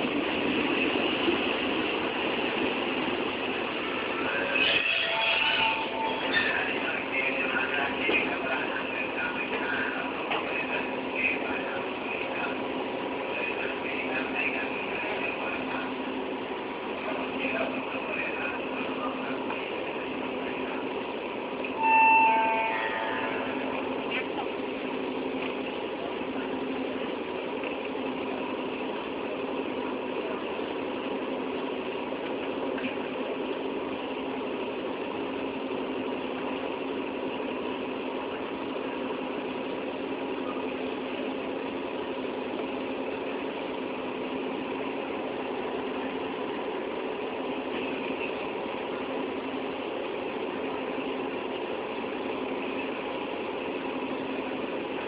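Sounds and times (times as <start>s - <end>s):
train engine humming: 0.0s - 55.0s.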